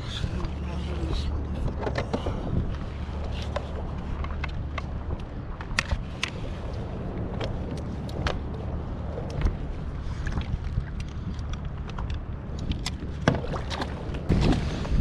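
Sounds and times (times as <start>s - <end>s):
wind and water rumble on microphone: 0.0s - 15.0s.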